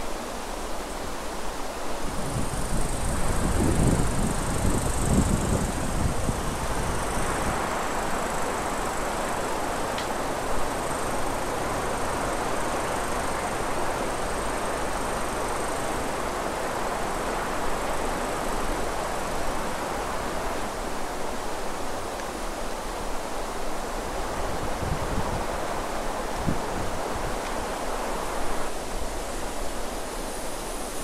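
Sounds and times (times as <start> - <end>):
outdoor rushing hiss: 0.0 - 31.0.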